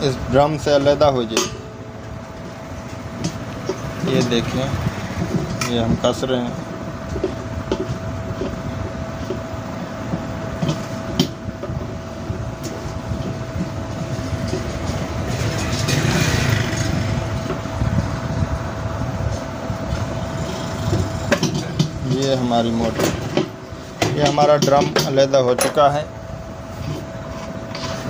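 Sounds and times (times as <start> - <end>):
spanner scraping and rattling metal: 0.0 - 9.5, 12.6 - 18.1, 19.9 - 26.1, 26.7 - 28.0
metal rumbling and grinding: 0.0 - 28.0.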